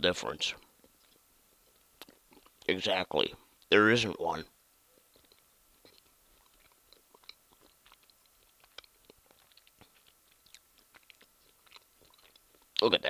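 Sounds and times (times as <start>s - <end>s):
faint chewing: 0.6s - 3.7s, 4.8s - 13.0s.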